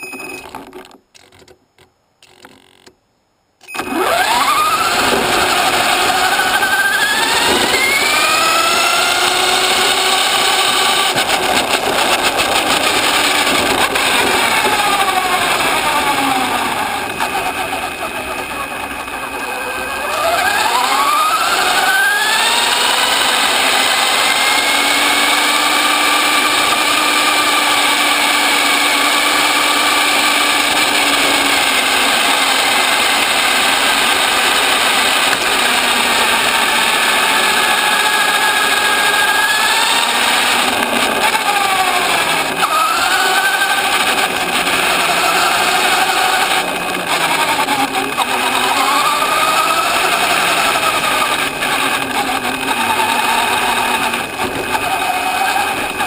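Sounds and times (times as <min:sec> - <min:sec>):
rc car motor whining: 0:03.7 - 0:56.0.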